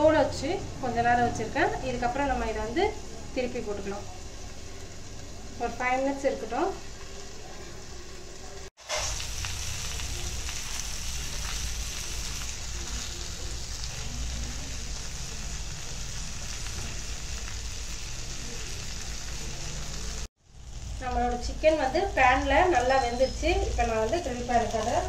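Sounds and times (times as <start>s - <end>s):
chicken sizzling in oil: 0.4s - 25.0s.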